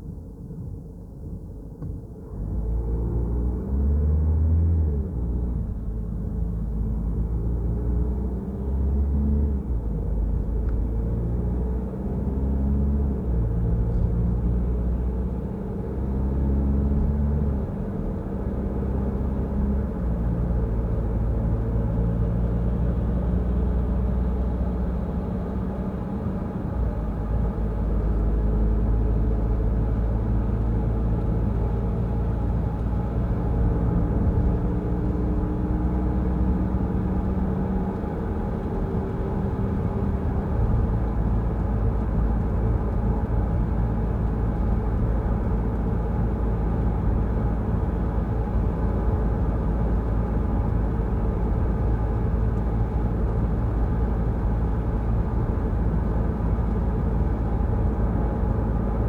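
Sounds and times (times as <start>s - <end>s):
car engine rumble: 0.0s - 59.0s
road noise: 3.6s - 59.0s.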